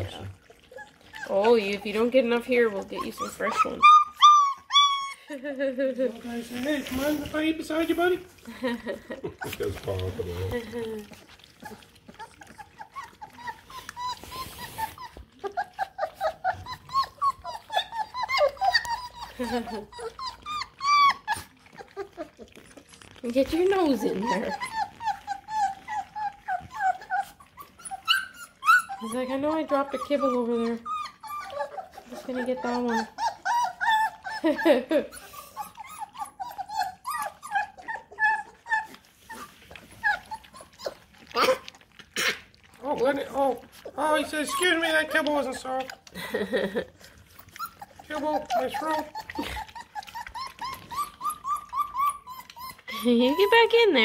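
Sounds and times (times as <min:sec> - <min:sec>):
clicking eating sounds: 0:00.0 - 0:54.0
puppies whimpering: 0:00.0 - 0:54.0.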